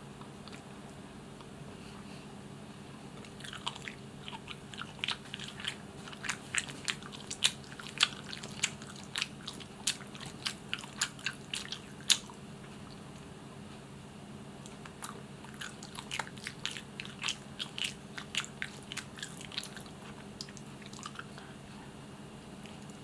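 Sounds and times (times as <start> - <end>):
faint steady low hum: 0.0 - 23.0
chewing with wet mouth clicks: 0.2 - 1.6, 3.2 - 13.3, 14.6 - 21.5, 22.6 - 23.0.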